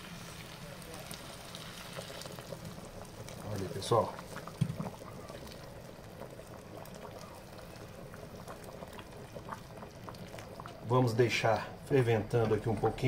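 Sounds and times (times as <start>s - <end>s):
water pouring into hot pan: 0.0s - 12.0s.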